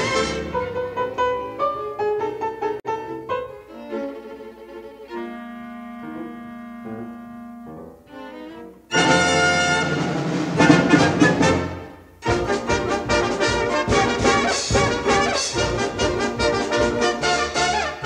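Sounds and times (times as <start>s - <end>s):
instrumental background music: 2.9s - 18.0s.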